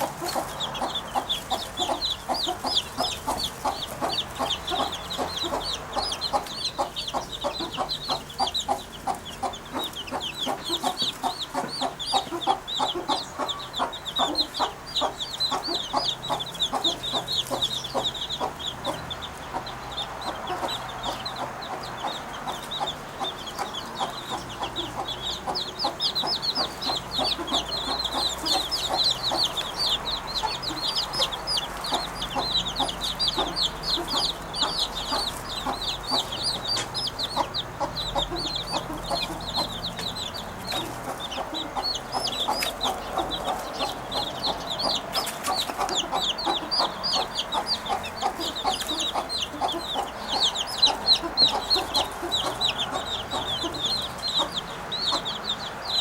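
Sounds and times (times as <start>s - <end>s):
birds chirping: 0.0s - 56.0s
hen clucking: 0.0s - 56.0s.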